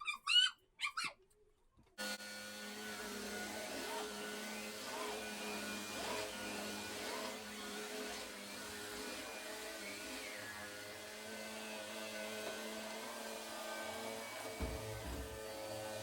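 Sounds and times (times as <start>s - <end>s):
vacuum cleaner running: 2.0s - 16.0s.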